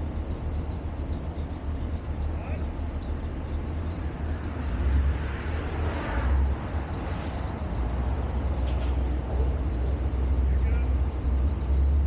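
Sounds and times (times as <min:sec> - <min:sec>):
vehicle running low rumble: 0:00.0 - 0:12.0.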